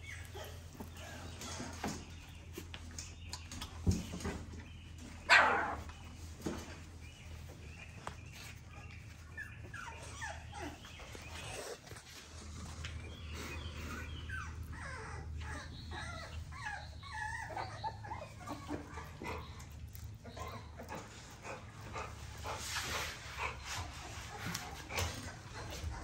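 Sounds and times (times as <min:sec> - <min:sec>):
puppies whimpering and squealing: 0:00.0 - 0:26.0.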